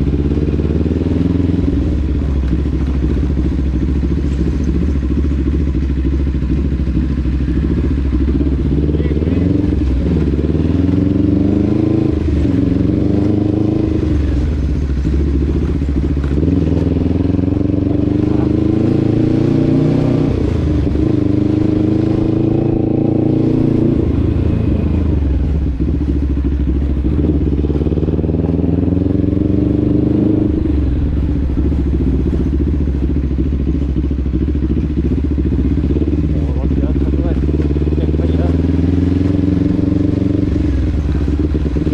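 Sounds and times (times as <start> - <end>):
vehicle engine accelerating: 0.0 - 41.9.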